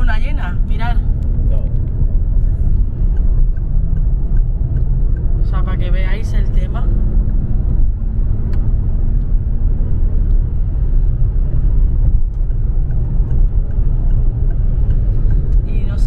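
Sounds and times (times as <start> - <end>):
car tyre and engine rumble: 0.0 - 16.0.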